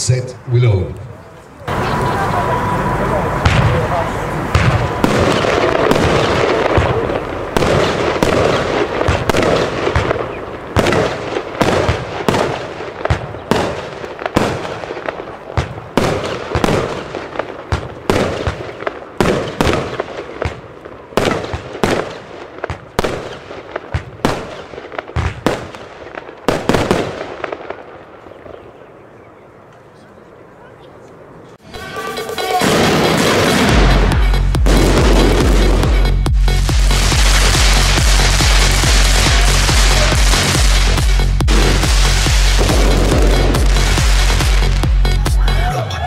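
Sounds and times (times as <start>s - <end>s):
firework shots from tubes: 2.6s - 28.4s, 32.4s - 45.1s.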